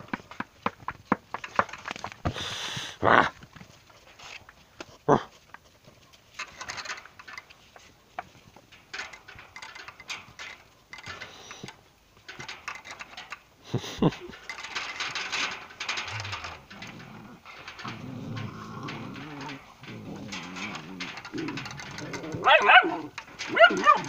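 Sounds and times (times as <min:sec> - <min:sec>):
puppies scuffling on concrete: 0:00.0 - 0:24.0.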